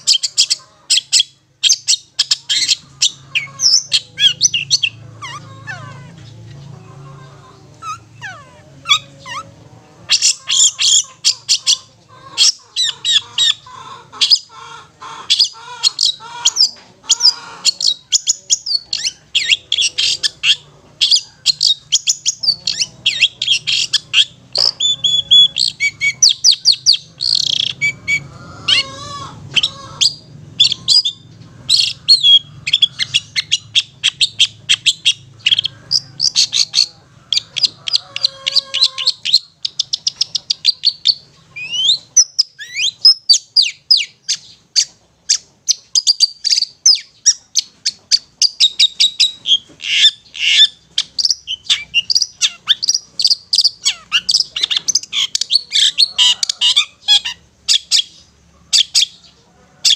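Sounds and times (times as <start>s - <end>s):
bird chattering: 0.0s - 59.9s.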